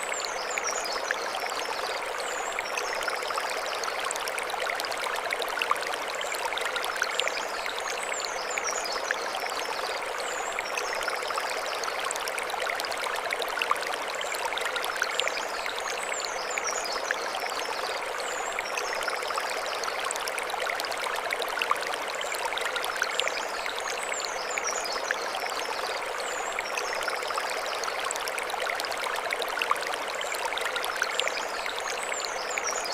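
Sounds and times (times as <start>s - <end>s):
stream running over stones: 0.0s - 32.9s.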